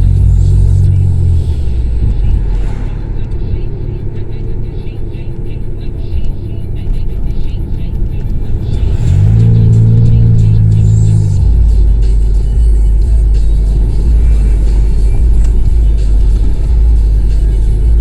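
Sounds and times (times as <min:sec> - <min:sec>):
car exhaust engine drone: 0:00.0 - 0:18.0.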